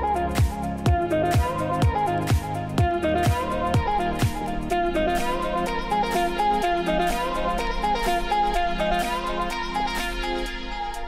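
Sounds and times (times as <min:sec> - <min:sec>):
low drum beat: 0:00.0 - 0:09.3
sustained music notes: 0:00.0 - 0:11.0.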